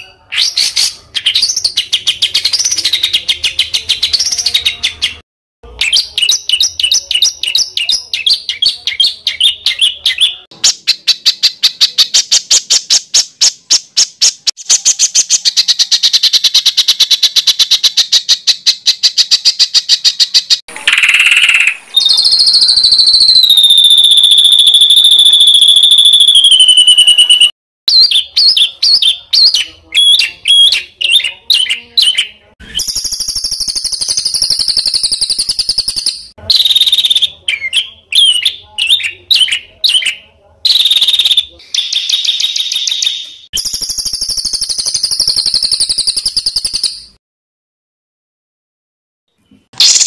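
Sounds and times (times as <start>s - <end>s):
songbird singing: 0.0s - 47.2s.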